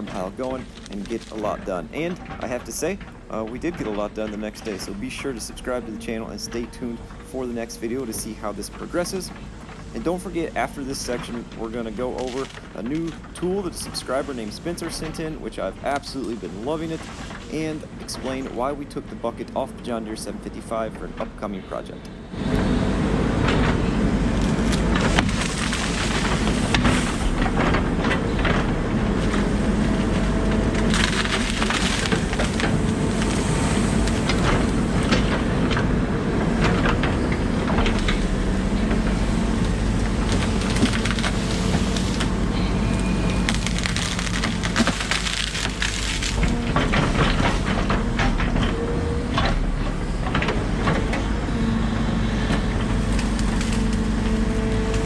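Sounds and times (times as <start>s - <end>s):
excavator engine running: 0.0s - 55.0s
wood cracking and splintering: 0.0s - 55.0s.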